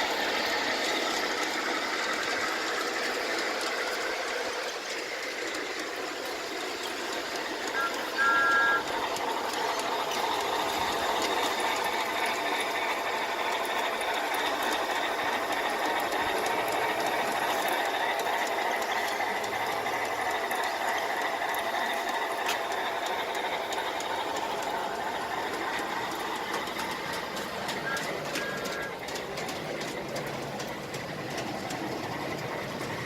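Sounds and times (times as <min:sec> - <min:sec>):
model locomotive motor whirring: 0:00.0 - 0:33.0.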